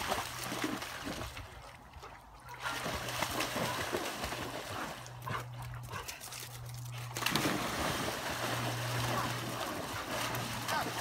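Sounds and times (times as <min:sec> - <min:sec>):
dogs splashing through water: 0:00.0 - 0:11.0.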